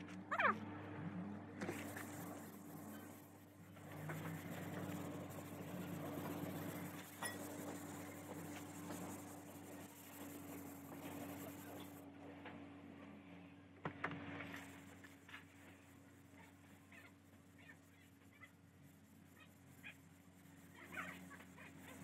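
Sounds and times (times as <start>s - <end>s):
low steady hum: 0.0s - 22.0s
sanding pad rasping: 1.6s - 12.0s, 14.5s - 22.0s.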